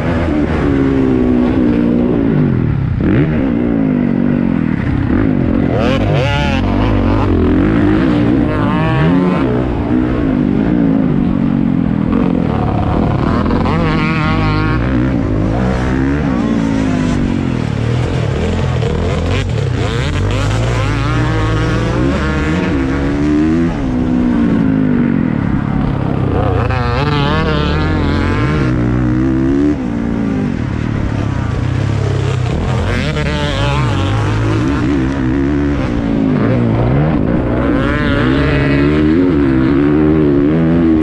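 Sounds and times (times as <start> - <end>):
motocross bike engine racing: 0.0 - 41.0.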